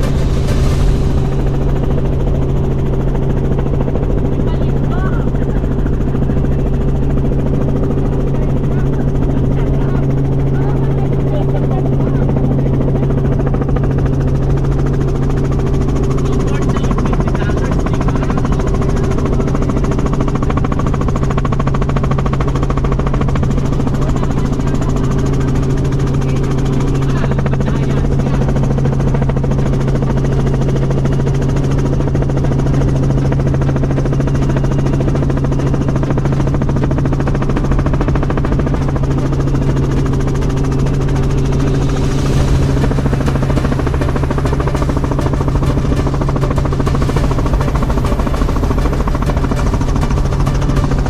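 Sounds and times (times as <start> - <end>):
helicopter engine and rotor: 0.0 - 51.0.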